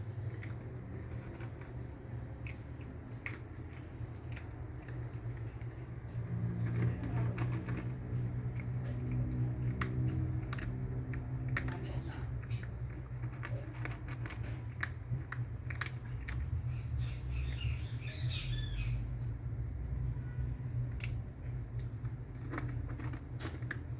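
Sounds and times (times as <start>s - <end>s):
pet crunching dry food: 0.0s - 23.9s.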